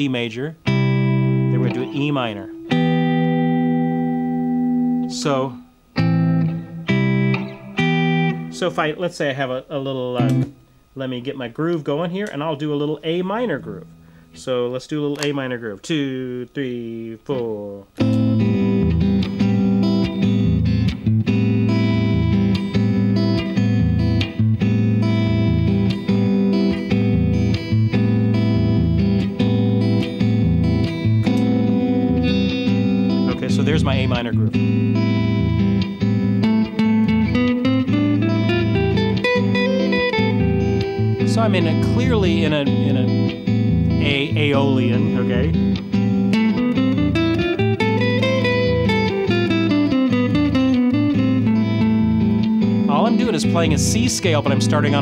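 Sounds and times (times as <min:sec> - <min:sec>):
electric guitar chords: 0:00.0 - 0:15.5, 0:17.4 - 0:55.0
minor groove accompaniment: 0:00.0 - 0:55.0.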